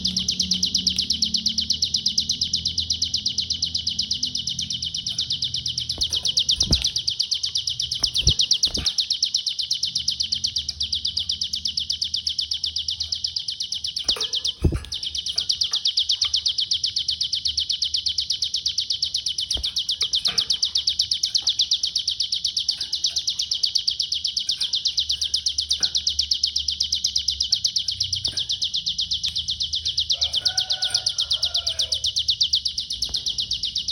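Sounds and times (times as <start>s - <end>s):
bird chattering trill: 0.0s - 33.9s.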